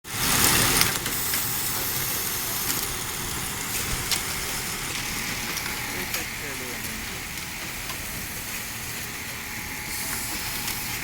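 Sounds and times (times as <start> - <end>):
belt-driven machine running: 0.1 - 11.0.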